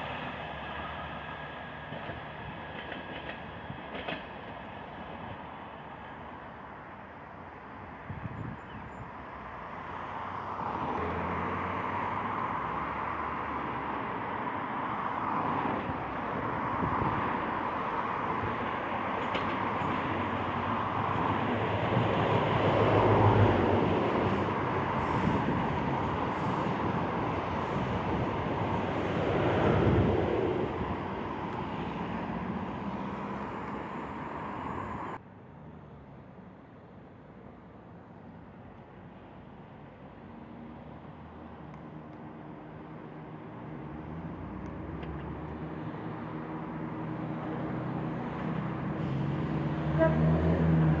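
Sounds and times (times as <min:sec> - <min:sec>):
train passing on rails: 0:00.0 - 0:51.0.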